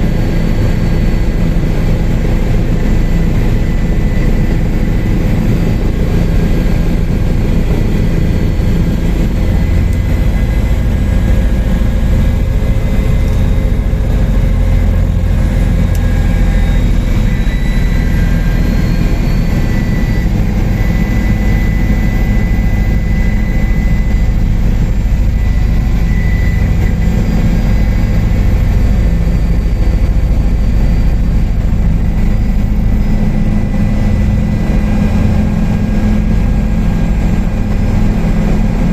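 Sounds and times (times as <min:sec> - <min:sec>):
helicopter rotor and engine: 0:00.0 - 0:38.9
thin high whine: 0:00.0 - 0:38.9.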